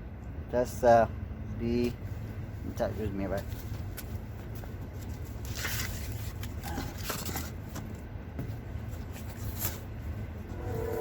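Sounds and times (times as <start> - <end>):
steady low rumble: 0.0 - 11.0
scrapes and rustles of handling: 2.1 - 11.0.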